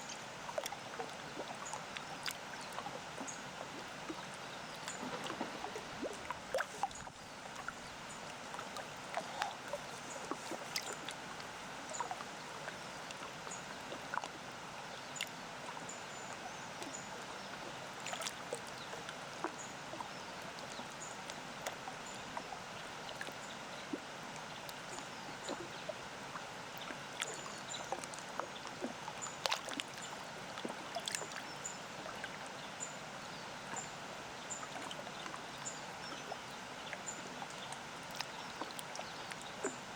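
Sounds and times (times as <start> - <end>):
small waves lapping at shore: 0.0 - 39.9.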